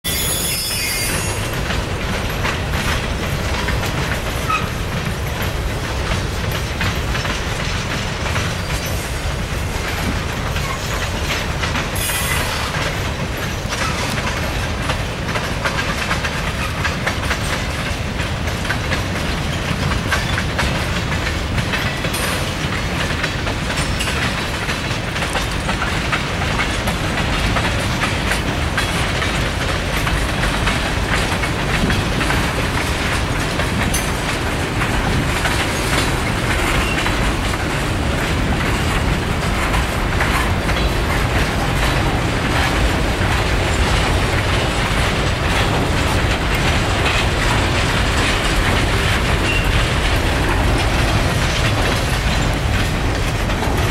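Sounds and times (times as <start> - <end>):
low rumble of train wheels: 0.1 - 53.9
wheel clicks on rails: 1.2 - 53.9.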